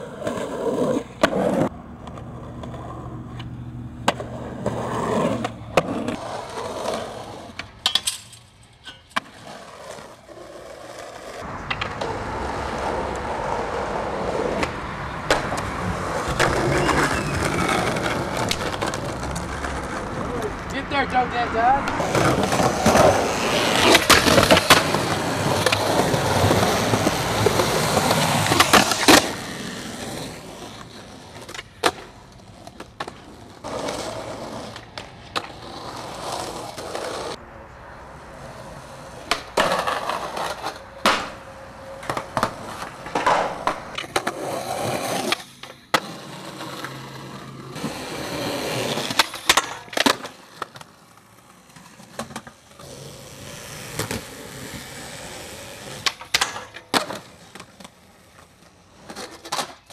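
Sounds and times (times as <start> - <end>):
skateboard grinding on concrete ledge: 0.0 - 7.9, 9.2 - 20.6, 21.8 - 37.4, 38.3 - 59.9
skateboard popping and landing: 0.0 - 20.8, 21.8 - 37.4, 38.4 - 59.9
skateboard rolling on concrete: 0.0 - 59.9.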